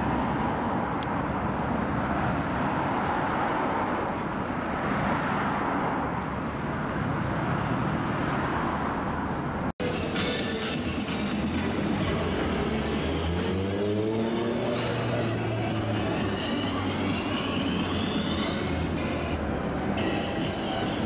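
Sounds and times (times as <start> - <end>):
passing cars and trucks: 0.0 - 21.0.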